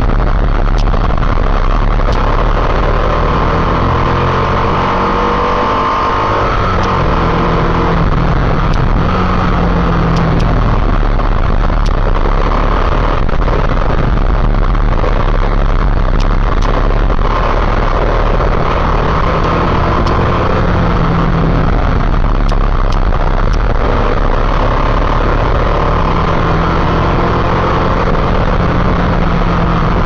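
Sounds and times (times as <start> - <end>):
motorcycle engine running: 0.0 - 30.0
wind and road noise: 0.0 - 30.0.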